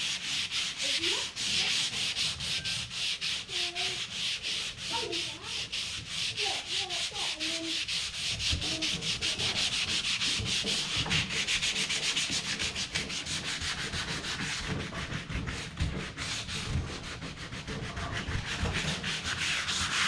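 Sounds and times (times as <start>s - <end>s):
sandpaper sanding wood: 0.0s - 20.0s.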